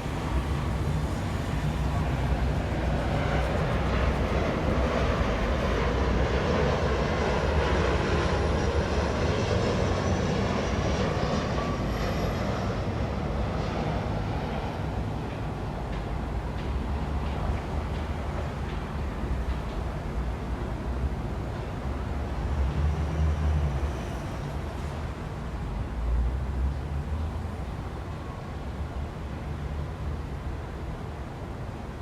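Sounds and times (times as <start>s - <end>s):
city traffic rumble: 0.0s - 32.0s.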